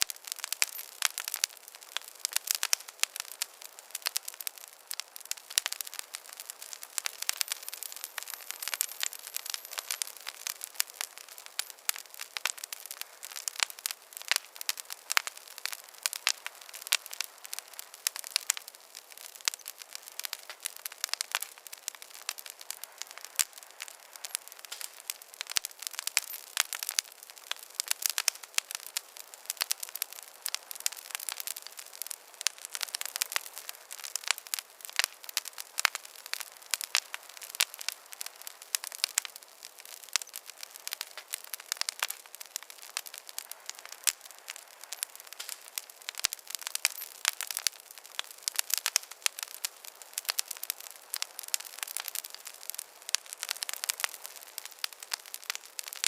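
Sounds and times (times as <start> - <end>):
faint hiss: 0.0 - 56.0
wood fire crackling and popping: 0.0 - 56.0.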